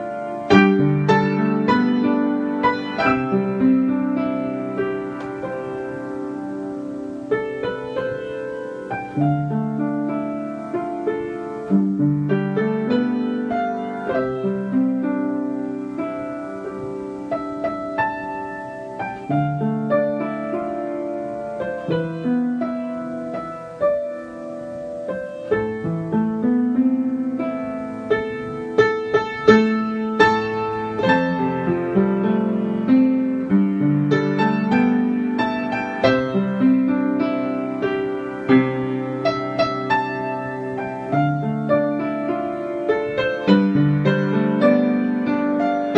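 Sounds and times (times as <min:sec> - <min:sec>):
calm piano music: 0:00.0 - 0:45.9.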